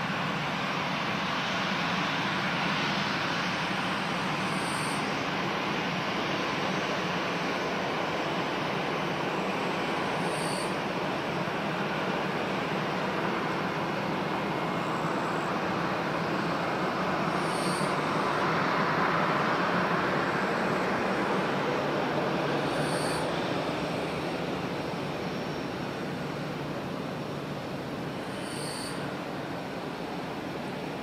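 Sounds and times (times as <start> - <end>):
jet engines rushing whine: 0.0 - 31.0.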